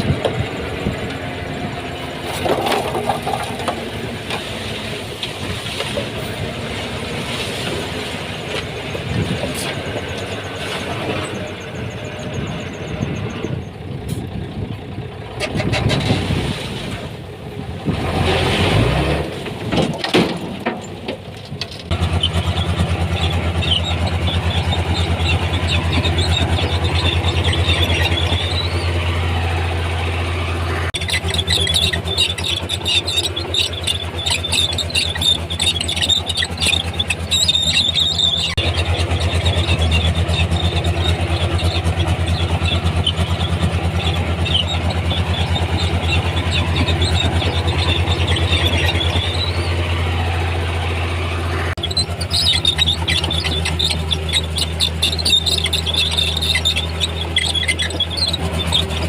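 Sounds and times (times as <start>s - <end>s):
steel tracks squealing and clattering: 0.0s - 17.2s, 17.9s - 59.0s
diesel engine running: 0.0s - 59.0s.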